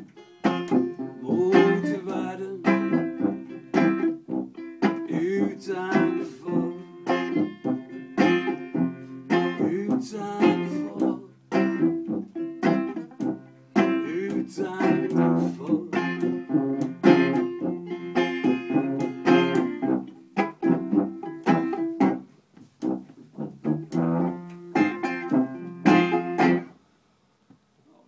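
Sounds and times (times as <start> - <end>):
banjo strumming chords: 0.0 - 26.7
tuba notes: 0.0 - 26.7.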